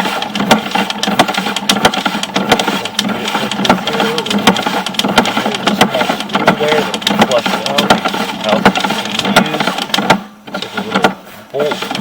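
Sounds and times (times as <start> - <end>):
clicking and knocking in drain: 0.0 - 11.2
steady hum: 0.0 - 12.0.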